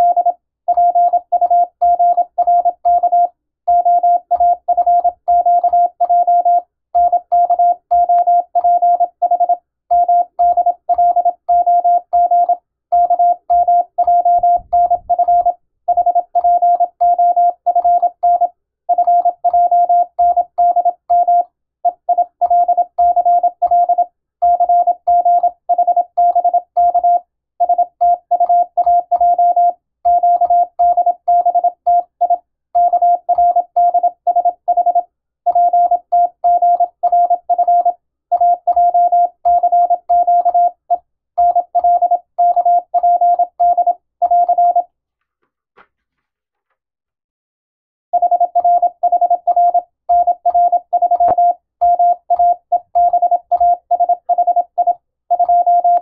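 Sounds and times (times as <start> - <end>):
morse code tone: 0.0 - 44.9, 48.2 - 56.0.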